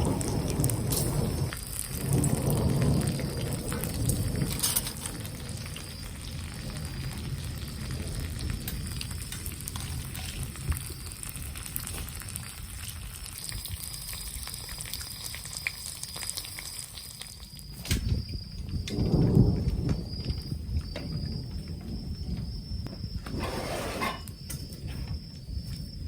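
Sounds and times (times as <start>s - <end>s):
thunder rumble: 0.0s - 13.7s, 17.7s - 26.0s
heavy rain pattering: 0.0s - 23.2s.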